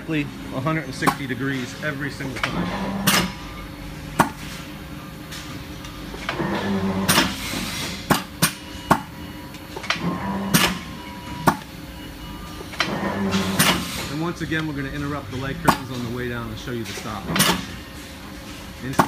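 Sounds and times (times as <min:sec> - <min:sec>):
press machine running: 0:00.0 - 0:19.0.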